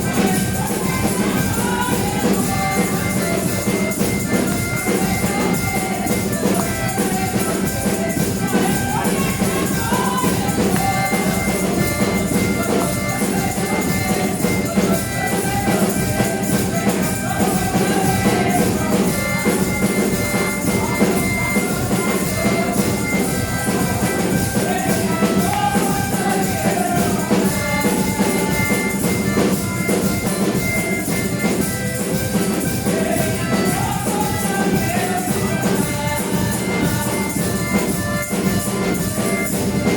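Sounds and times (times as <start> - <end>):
church praise music: 0.0 - 39.9
drums and tambourine beat: 0.0 - 39.9.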